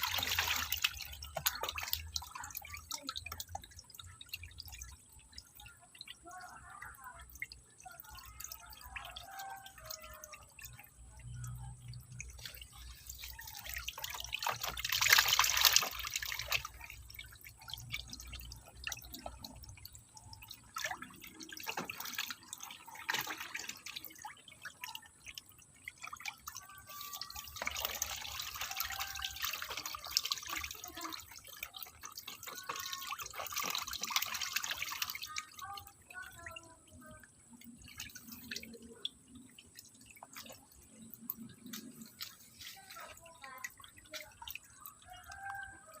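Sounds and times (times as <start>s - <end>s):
water splashing and dripping: 0.0s - 46.0s.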